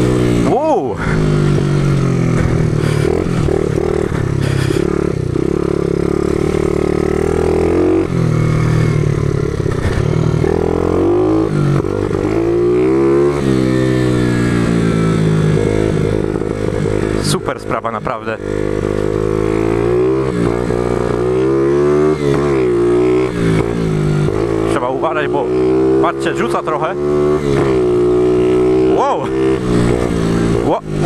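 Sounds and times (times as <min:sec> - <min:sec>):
small motorbike engine revving: 0:00.0 - 0:31.0.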